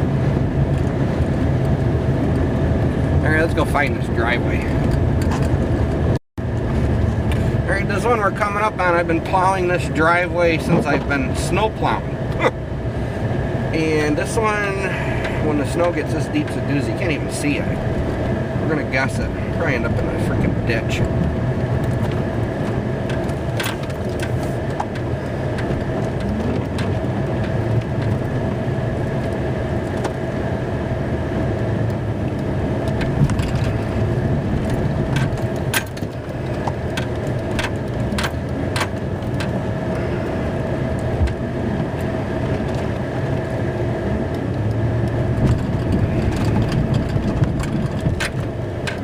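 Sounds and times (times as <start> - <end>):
constant whine: 0.0 - 49.0
truck engine rumble: 0.0 - 49.0.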